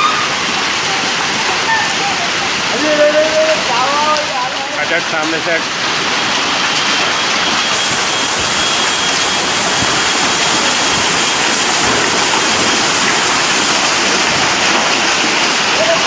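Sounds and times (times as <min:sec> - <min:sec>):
heavy rain downpour: 0:00.0 - 0:16.0.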